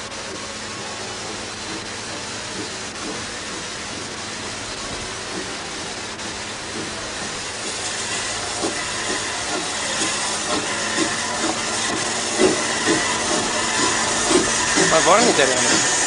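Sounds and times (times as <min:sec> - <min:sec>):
steam hissing: 0:00.0 - 0:16.0
steam locomotive exhaust chuffs: 0:00.0 - 0:16.0.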